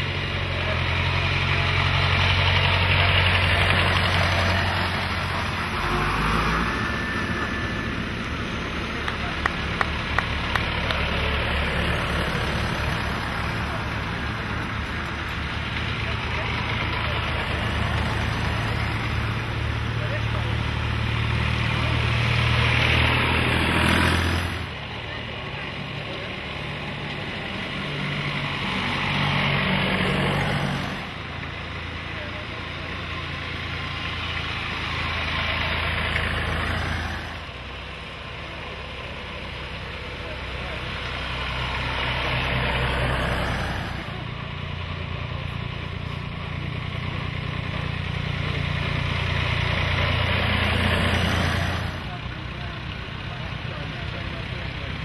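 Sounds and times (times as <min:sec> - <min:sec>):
tractor engine driving past: 0:00.0 - 0:55.0.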